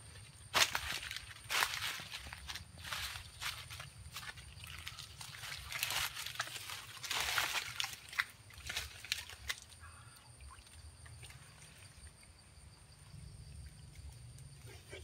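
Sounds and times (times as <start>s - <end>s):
water splashing in shallow creek: 0.0s - 15.0s.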